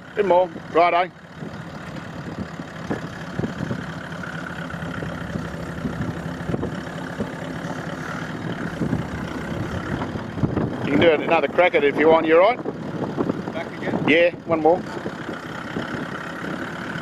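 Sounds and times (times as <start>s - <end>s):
diesel engine running at low revs: 0.0s - 17.0s.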